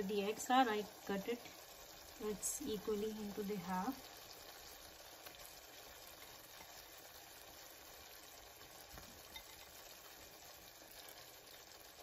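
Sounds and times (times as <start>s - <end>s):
gravy sizzling in a pan: 0.0s - 12.0s.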